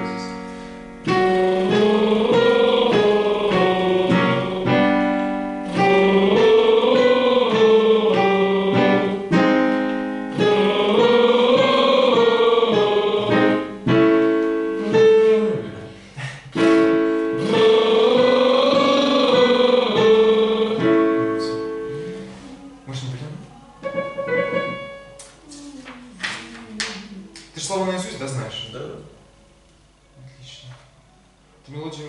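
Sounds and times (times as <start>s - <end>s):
person singing with vibrato: 0.0s - 27.4s.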